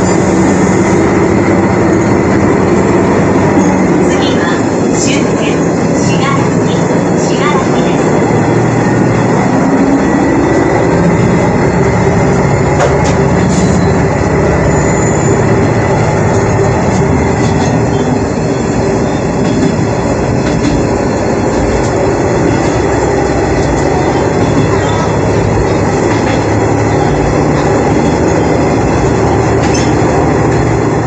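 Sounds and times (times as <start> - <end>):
diesel engine drone: 0.0 - 31.0
wheels rumbling on rail: 0.0 - 31.0.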